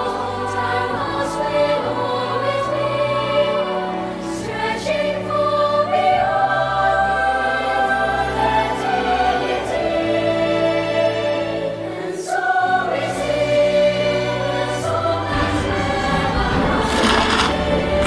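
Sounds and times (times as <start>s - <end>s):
choir-like sustained chords: 0.0s - 16.9s.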